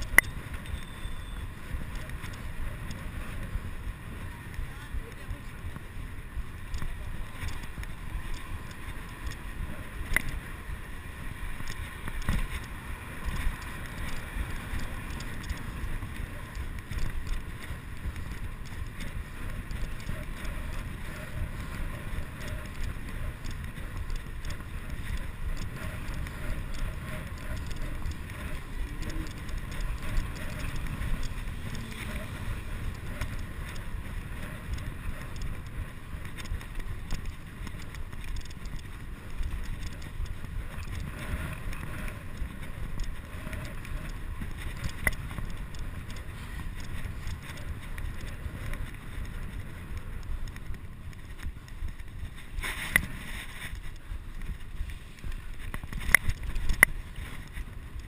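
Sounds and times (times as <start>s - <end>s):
bicycle rattling: 0.0s - 58.0s
bicycle tyre rumble on bricks: 0.0s - 58.0s
wind buffeting microphone: 0.0s - 58.0s.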